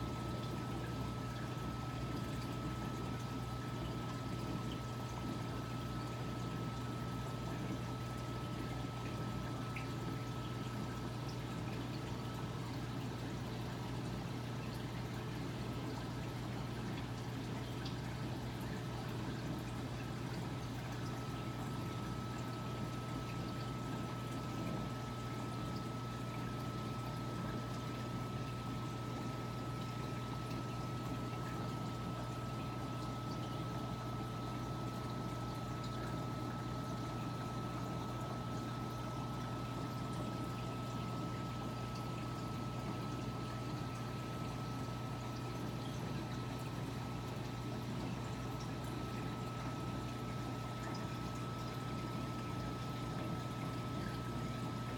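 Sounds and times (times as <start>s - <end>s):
aquarium pump hum: 0.0s - 54.9s
faint water drips: 0.0s - 54.9s
water trickling: 0.0s - 54.9s.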